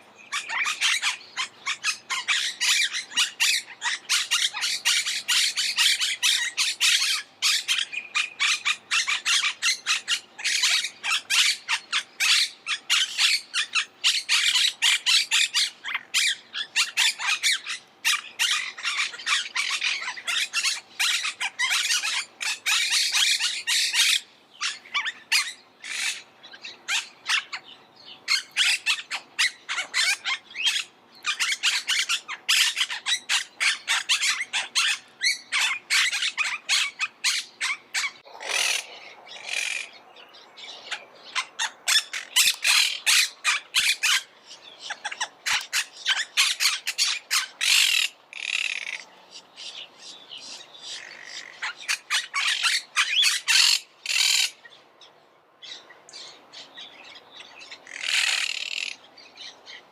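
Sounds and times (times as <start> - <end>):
parakeets squawking: 0.3 - 27.6, 28.3 - 40.0, 40.8 - 49.1, 50.9 - 54.6, 57.8 - 59.0.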